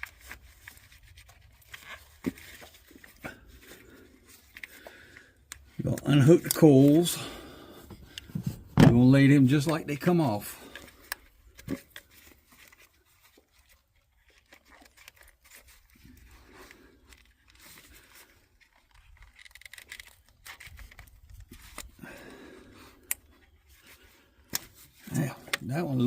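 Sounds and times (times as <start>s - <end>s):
hands scraping and rustling: 0.0s - 7.1s, 7.8s - 22.0s.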